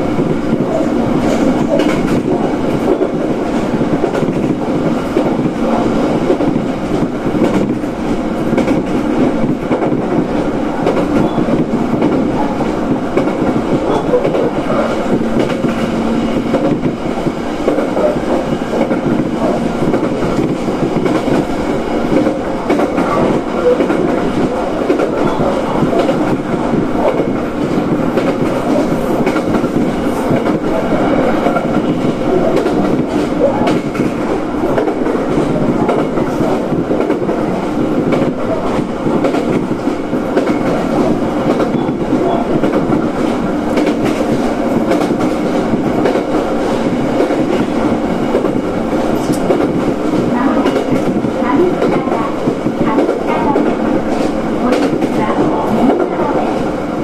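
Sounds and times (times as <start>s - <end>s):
clickety-clack over rail joints: 0.0s - 57.0s
steel wheels rumbling on rails: 0.0s - 57.0s.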